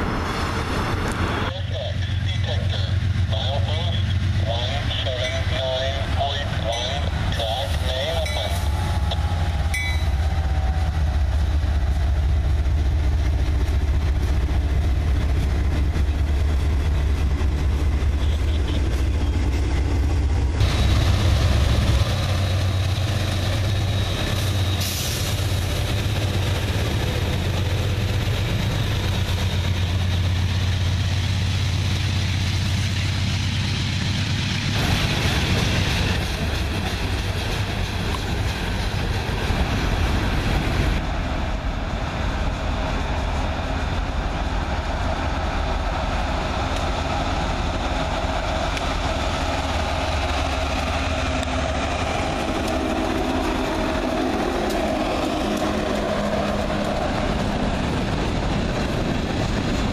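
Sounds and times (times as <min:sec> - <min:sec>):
diesel locomotive rumble: 0:00.0 - 0:59.9
train wheels rolling on rail: 0:00.0 - 0:59.9.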